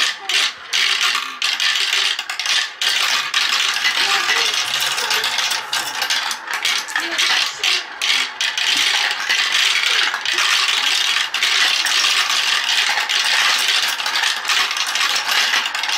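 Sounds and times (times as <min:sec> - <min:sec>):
marbles rattling through plastic tubes: 0:00.0 - 0:15.9.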